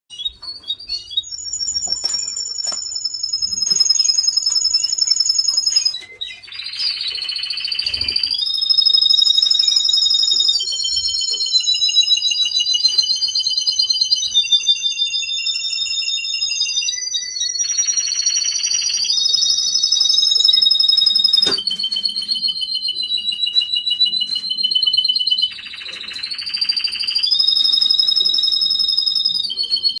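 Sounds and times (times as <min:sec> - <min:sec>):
canary singing rapid high trills: 0:00.1 - 0:30.0.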